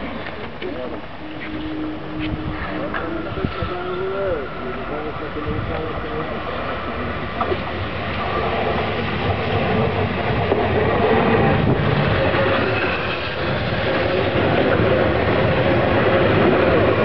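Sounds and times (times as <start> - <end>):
train wheels rumbling on rails: 0.0 - 17.0
train whine: 0.0 - 17.0.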